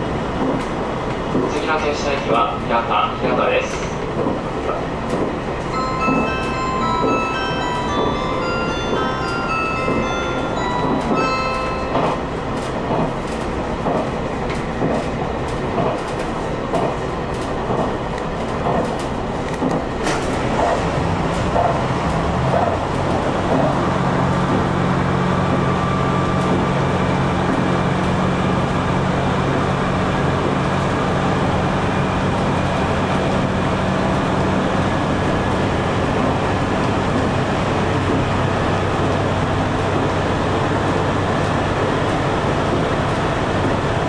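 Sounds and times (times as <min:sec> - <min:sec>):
diesel engine drone: 0:00.0 - 0:44.0
train wheel and rail noise: 0:00.0 - 0:44.0.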